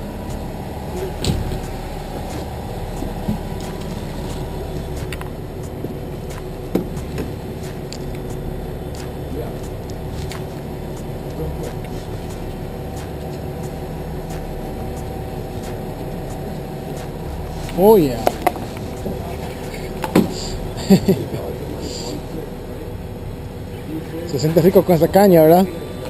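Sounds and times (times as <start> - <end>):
boat engine idling: 0.0 - 26.0.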